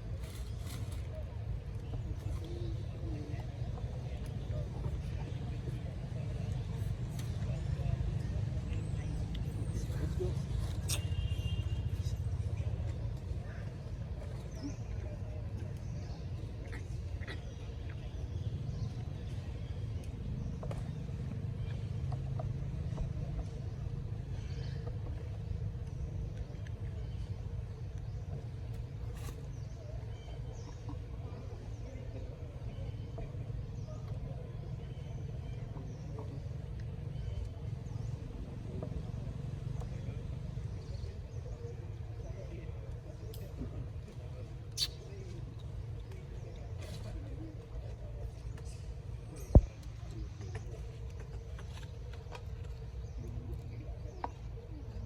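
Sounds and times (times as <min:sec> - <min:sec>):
low rumbling background noise: 0:00.0 - 0:55.0.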